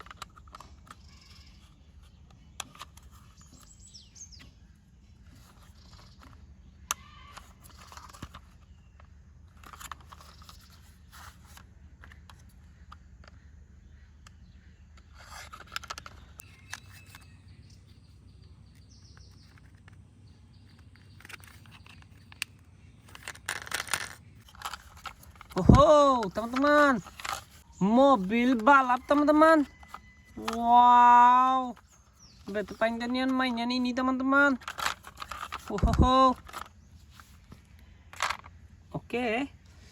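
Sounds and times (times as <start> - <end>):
plastic toy parts clicking: 0.0 - 3.8, 5.2 - 13.4, 14.2 - 17.3, 18.7 - 20.0, 20.6 - 39.5.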